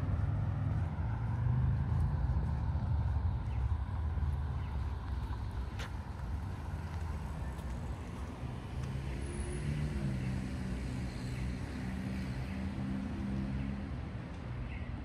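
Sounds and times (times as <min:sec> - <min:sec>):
street rumble: 0:00.0 - 0:15.0.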